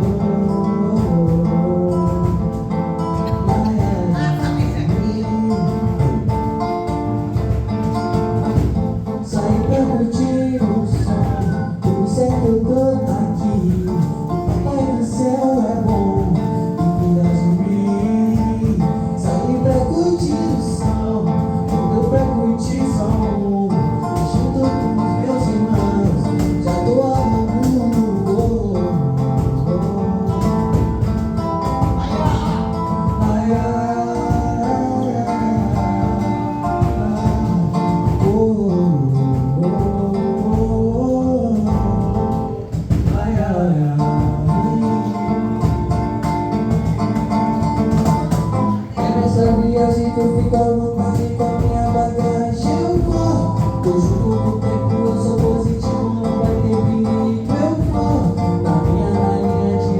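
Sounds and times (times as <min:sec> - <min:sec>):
man singing: 0:00.0 - 0:59.9
plucked guitar: 0:00.0 - 0:59.9.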